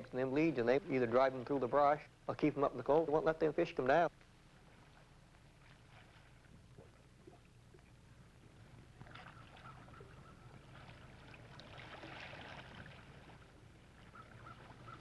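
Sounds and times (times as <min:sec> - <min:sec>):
steady low hum: 0:00.0 - 0:15.0
water lapping and trickling: 0:00.0 - 0:15.0.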